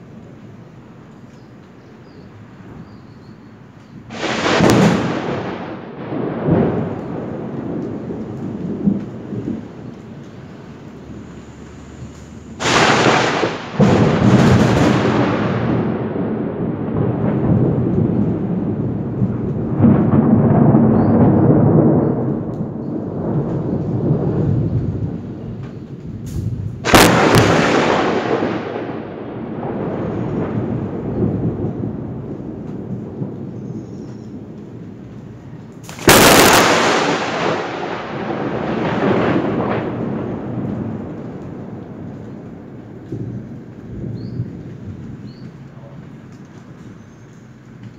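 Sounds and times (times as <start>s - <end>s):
rolling thunder rumble: 0.0s - 47.9s
thunder crack: 4.1s - 45.5s.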